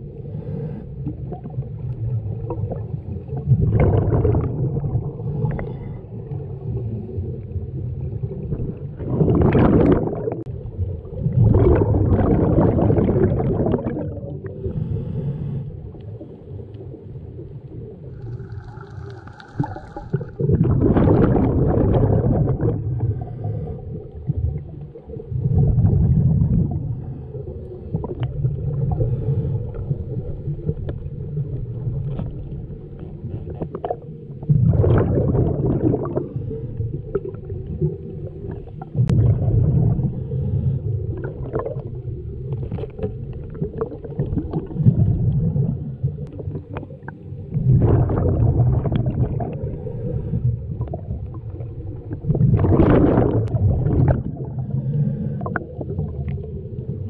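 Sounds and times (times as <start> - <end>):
low underwater rumble: 0.0 - 57.0
regulator bubbling gurgle: 0.0 - 57.0.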